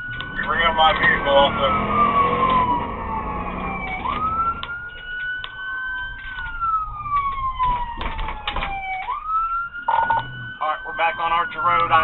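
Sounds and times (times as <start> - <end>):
police car siren wailing: 0.0 - 12.0.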